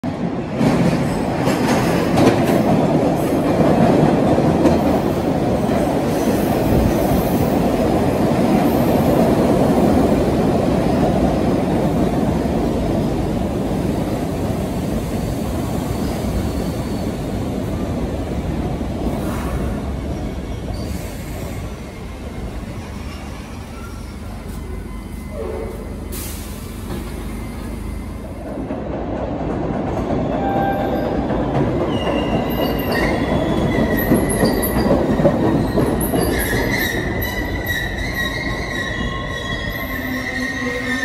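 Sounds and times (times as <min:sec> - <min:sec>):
subway train wheels rumbling on rail: 0:00.0 - 0:41.0.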